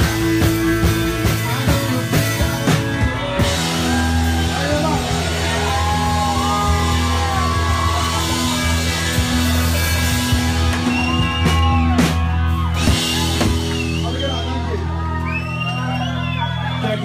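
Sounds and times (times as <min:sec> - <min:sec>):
bass and guitar notes: 0:00.0 - 0:17.0.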